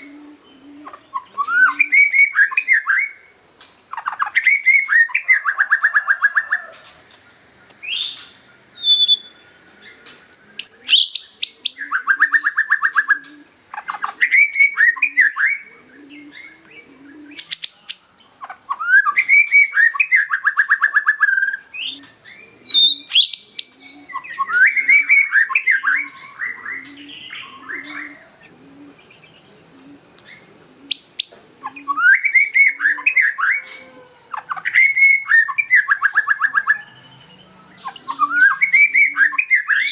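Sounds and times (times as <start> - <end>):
bird singing whistles and trills: 0.0 - 7.0, 7.6 - 39.9.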